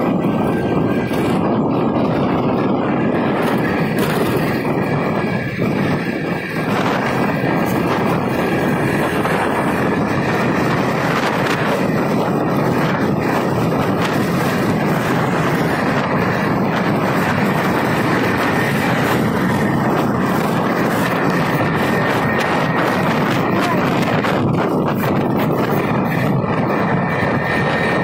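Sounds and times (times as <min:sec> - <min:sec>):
motorbike engine running: 0:00.0 - 0:28.0
wind rushing over microphone: 0:00.0 - 0:28.0.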